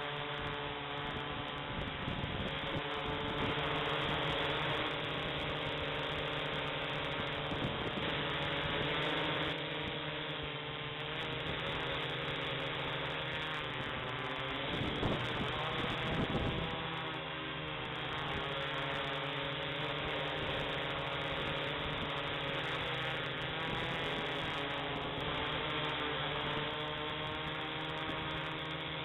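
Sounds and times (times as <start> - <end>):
drone propellers whirring: 0.0 - 29.0.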